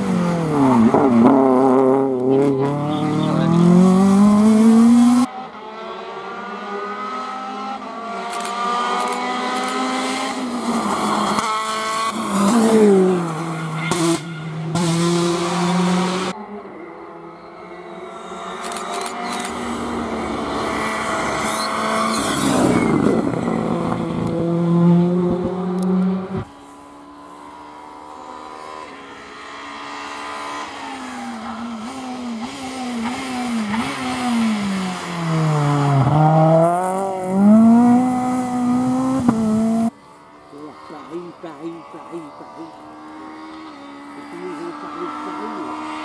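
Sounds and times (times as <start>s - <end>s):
rally car engine revving through gears: 0.0s - 16.4s, 18.4s - 26.5s, 27.4s - 40.0s, 40.6s - 46.0s
rally car engine at high revs: 0.0s - 46.0s.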